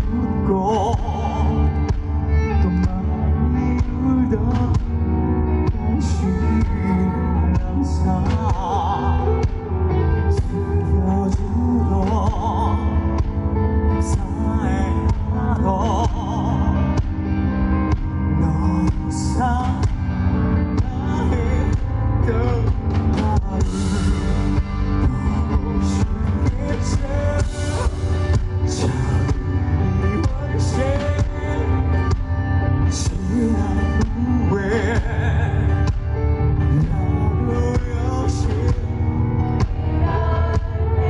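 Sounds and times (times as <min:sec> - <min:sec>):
live band playing power ballad: 0:00.0 - 0:41.0
man singing lead: 0:00.0 - 0:41.0.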